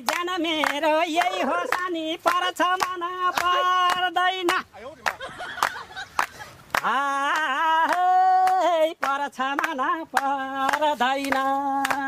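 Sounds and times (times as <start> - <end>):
hand claps: 0.0 - 12.0.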